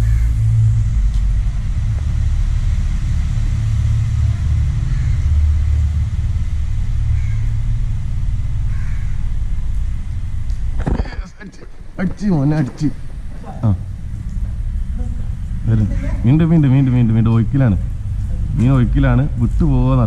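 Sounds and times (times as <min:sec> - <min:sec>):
low flickering rumble: 0:00.0 - 0:20.0.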